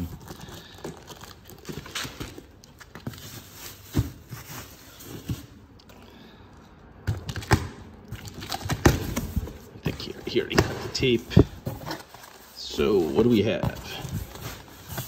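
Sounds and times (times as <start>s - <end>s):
packing tape and plastic crinkling: 0.0s - 6.0s, 7.1s - 15.0s.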